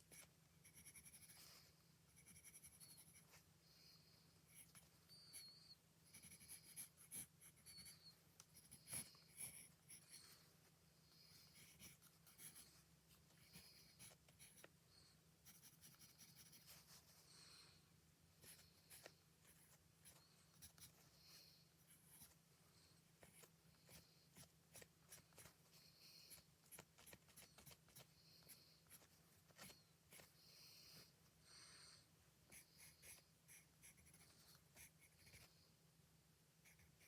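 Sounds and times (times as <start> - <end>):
drawing tool scratching on paper: 0.0 - 3.4, 4.5 - 10.4, 11.1 - 14.7, 15.4 - 17.0, 18.4 - 22.4, 23.2 - 31.1, 32.5 - 35.5, 36.6 - 37.0.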